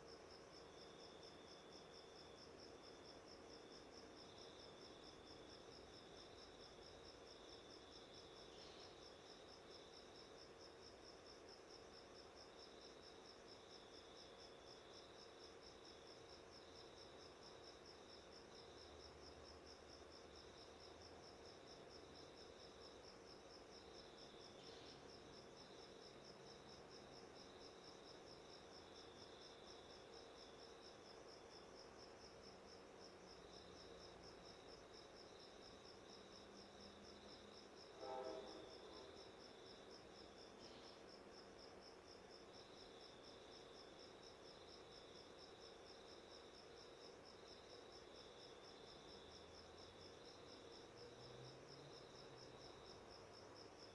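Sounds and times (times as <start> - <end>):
background hiss: 0.0 - 53.9
insect trill: 0.0 - 53.9.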